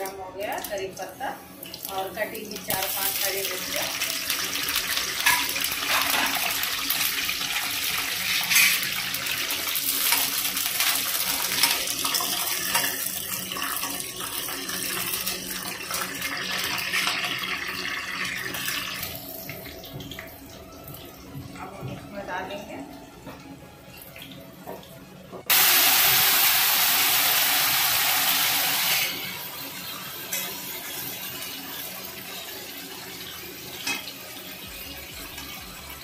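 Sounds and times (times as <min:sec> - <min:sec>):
leaves sizzling in hot oil: 0:00.5 - 0:19.2, 0:25.5 - 0:36.0.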